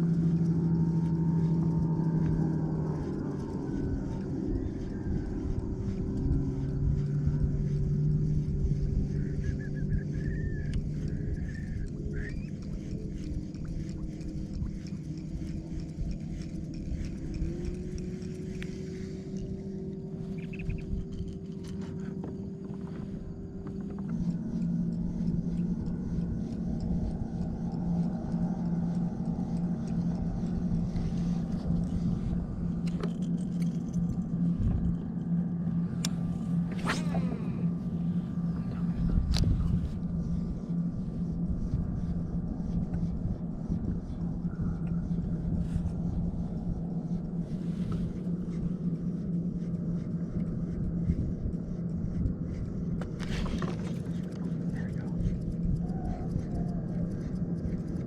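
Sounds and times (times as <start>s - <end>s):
motor humming: 0.0s - 58.0s.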